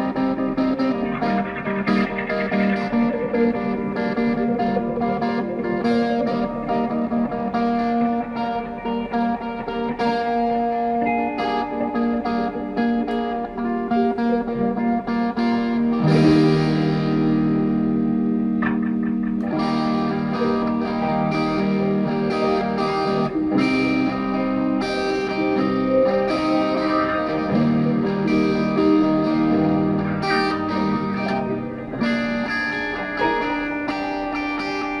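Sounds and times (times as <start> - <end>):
instrumental music sustained chords: 0.0 - 35.0.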